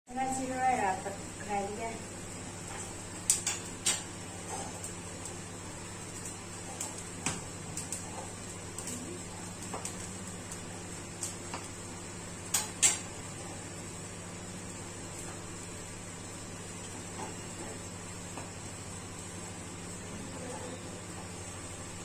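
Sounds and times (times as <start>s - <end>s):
steady low hum: 0.1s - 22.0s.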